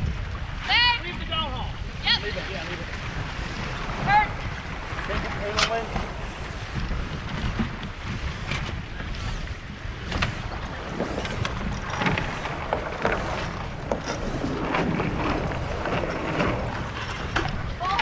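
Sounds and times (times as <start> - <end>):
water rushing along hull: 0.0 - 18.0
wind buffeting microphone: 0.0 - 18.0
knocks and clicks from boat: 2.0 - 18.0.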